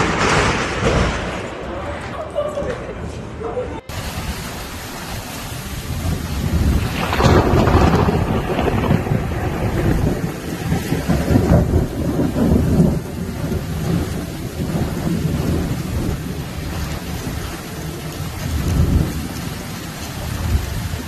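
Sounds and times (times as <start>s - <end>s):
rolling thunder: 0.0s - 2.1s, 3.9s - 21.0s
heavy rain: 0.0s - 3.1s, 3.8s - 21.0s.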